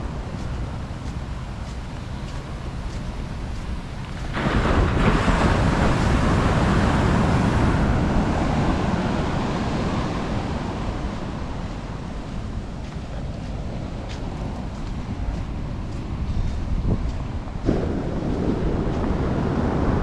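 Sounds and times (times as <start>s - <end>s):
wind rumbling on microphone: 0.0s - 20.0s
ocean wave breaking on beach: 1.5s - 16.4s, 17.6s - 20.0s.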